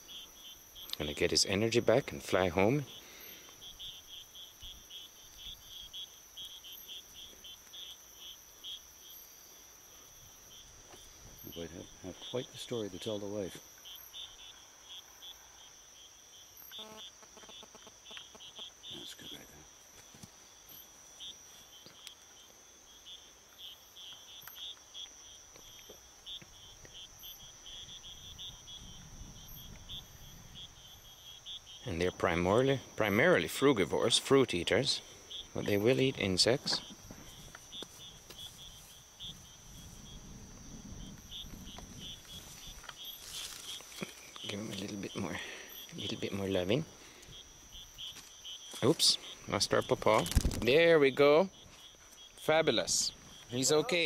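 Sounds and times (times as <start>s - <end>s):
cricket chirping: 0.0s - 54.0s
high-pitched insect drone: 0.0s - 54.0s.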